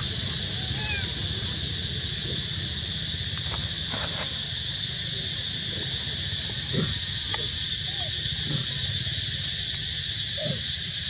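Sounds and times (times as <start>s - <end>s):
high insect chorus: 0.0s - 11.0s.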